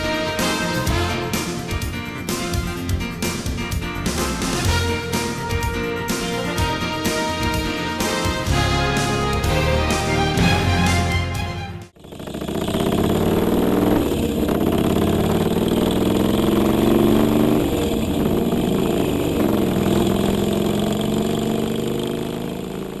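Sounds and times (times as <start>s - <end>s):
motorcycle engine running: 0.0s - 10.7s, 11.9s - 23.0s.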